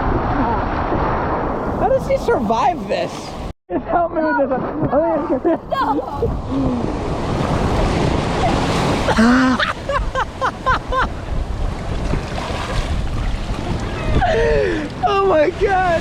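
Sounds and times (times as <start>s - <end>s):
ocean surf breaking: 0.0s - 3.5s, 5.0s - 16.0s
wind rumbling on microphone: 0.0s - 3.5s, 4.5s - 16.0s.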